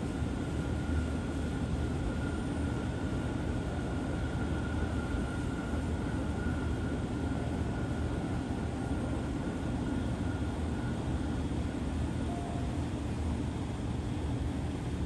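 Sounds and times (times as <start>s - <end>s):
faint high whine: 0.0s - 14.5s.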